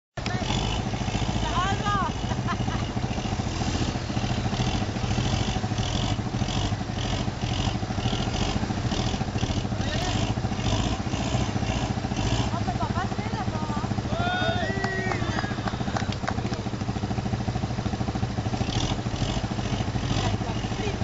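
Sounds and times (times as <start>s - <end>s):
pickup engine running at low revs: 0.2s - 21.0s.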